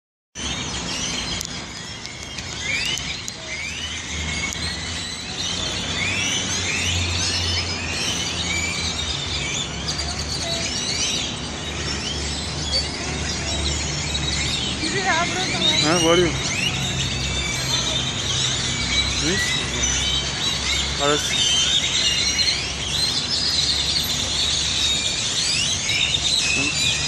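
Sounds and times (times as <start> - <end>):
flock of birds calling: 0.4 - 27.0.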